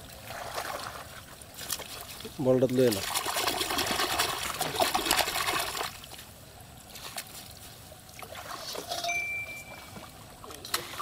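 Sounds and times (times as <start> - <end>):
fish splashing in shallow water: 0.0 - 11.0.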